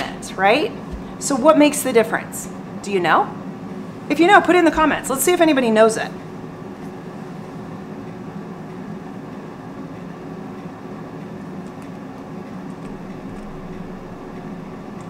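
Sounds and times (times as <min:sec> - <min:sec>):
fan whirring hum: 0:00.0 - 0:15.0.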